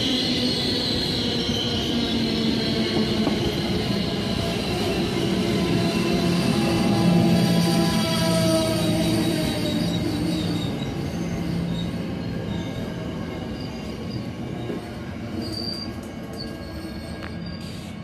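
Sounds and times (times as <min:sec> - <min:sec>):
train wheels squealing: 0:00.0 - 0:18.0.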